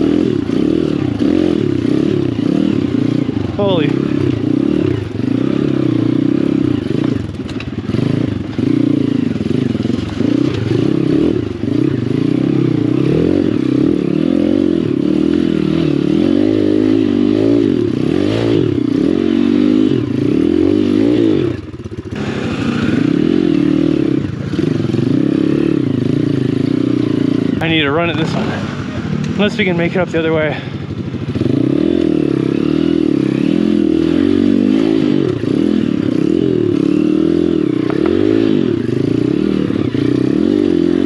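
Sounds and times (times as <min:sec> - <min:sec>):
motorbike engine revving: 0:00.0 - 0:41.0.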